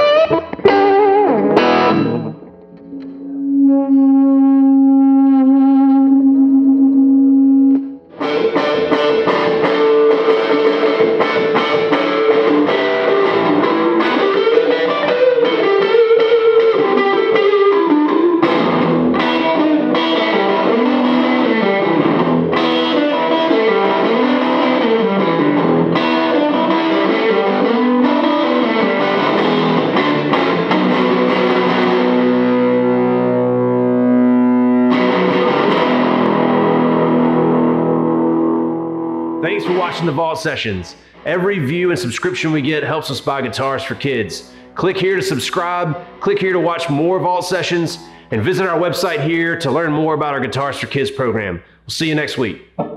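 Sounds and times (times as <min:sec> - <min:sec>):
distorted electric guitar riff: 0:00.0 - 0:51.0.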